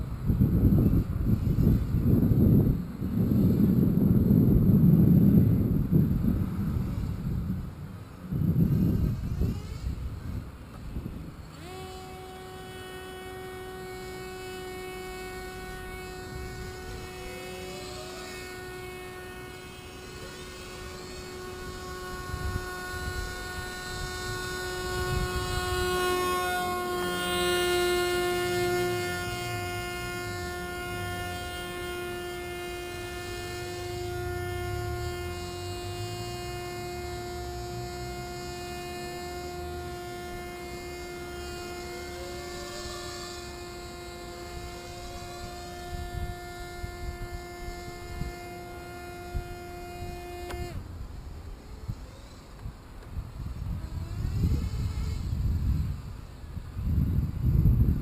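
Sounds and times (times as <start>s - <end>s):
small propeller motor whine: 0.0s - 58.0s.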